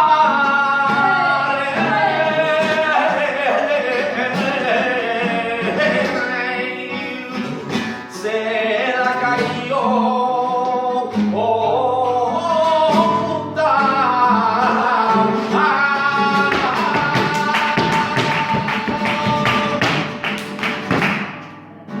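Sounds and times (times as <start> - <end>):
person singing melismatic lines: 0.0 - 20.2
flamenco guitar: 0.0 - 22.0.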